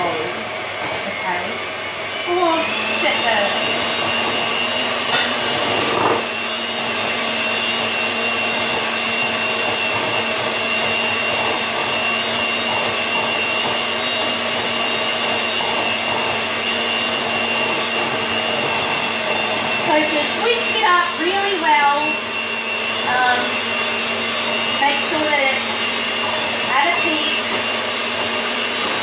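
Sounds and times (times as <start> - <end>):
electric mixer motor whine: 0.0 - 29.0.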